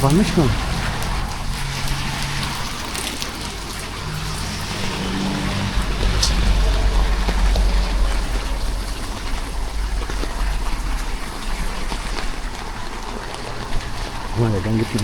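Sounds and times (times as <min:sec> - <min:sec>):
rain hiss on wet road: 0:00.0 - 0:15.0
wind rumbling on microphone: 0:00.0 - 0:15.0.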